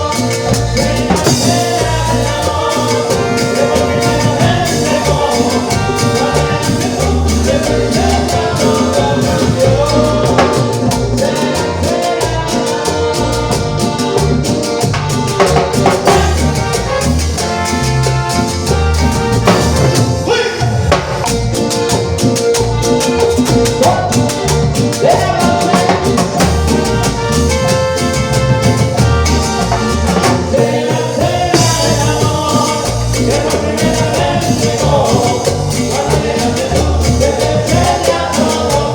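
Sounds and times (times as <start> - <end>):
latin dance band playing: 0.0 - 38.9.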